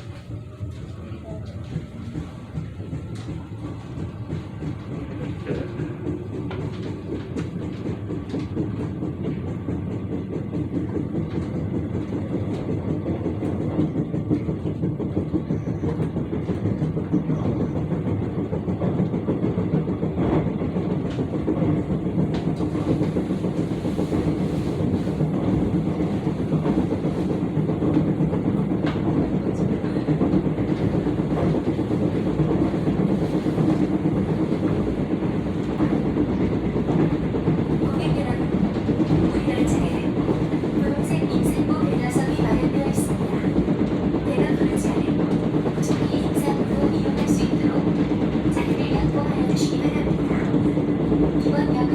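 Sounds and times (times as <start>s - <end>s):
train running rumble: 0.0s - 51.9s.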